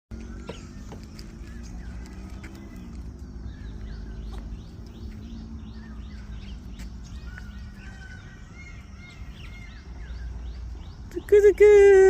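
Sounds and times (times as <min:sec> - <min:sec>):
birds chirping: 0:00.1 - 0:12.0
low outdoor rumble: 0:00.1 - 0:12.0.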